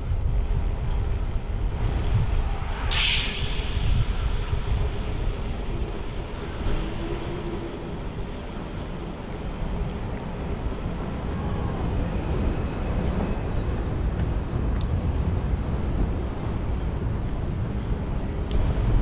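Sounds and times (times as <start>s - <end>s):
city traffic: 0.0s - 19.0s
trams: 0.0s - 19.0s
wind on microphone: 0.0s - 19.0s.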